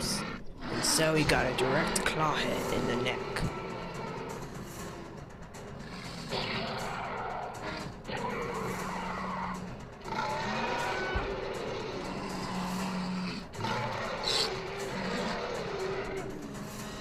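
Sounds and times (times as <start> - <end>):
dinosaur roars and screeches: 0.0 - 17.0.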